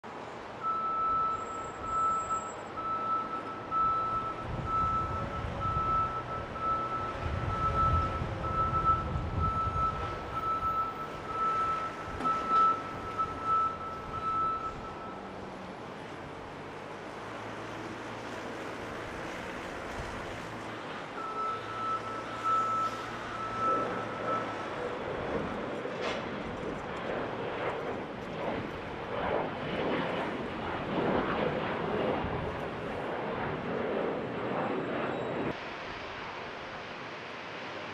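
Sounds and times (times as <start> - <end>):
jet engine roar on takeoff: 0.1 - 37.9
high jet whine: 0.2 - 37.9.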